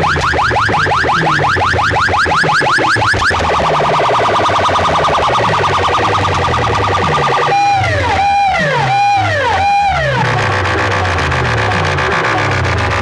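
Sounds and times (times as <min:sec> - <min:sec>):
electronic siren effects: 0:00.0 - 0:13.0.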